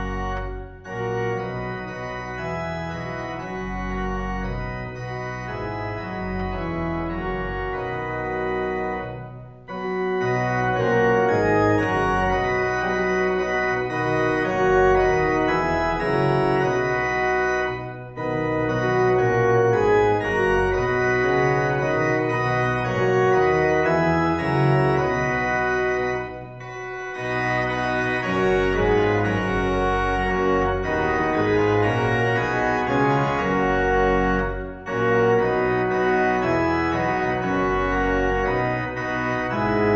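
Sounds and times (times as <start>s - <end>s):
church organ playing chords: 0.0s - 39.9s.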